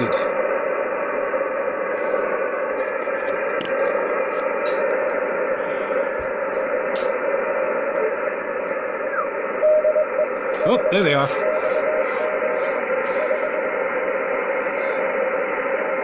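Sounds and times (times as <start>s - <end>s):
radio static and band noise: 0.0s - 16.0s.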